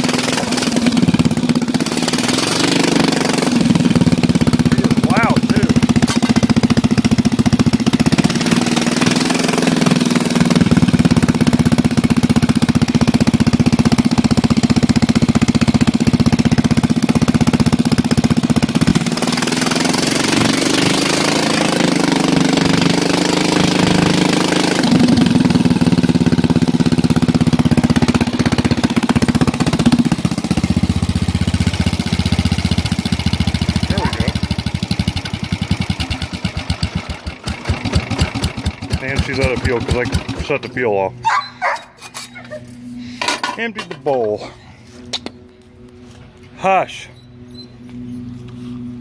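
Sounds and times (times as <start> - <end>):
loud rattly engine exhaust: 0.0 - 41.1.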